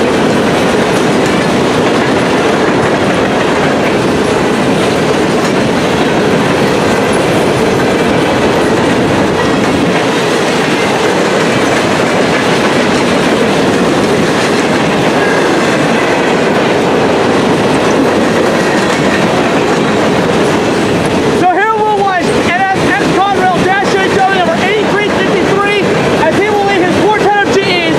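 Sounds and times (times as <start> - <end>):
freight train wheels on rails: 0.0 - 27.9.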